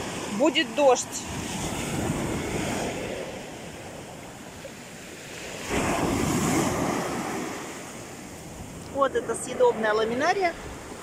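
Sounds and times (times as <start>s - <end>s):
waves breaking on sandy beach: 0.0s - 11.0s
wind on microphone: 0.8s - 11.0s.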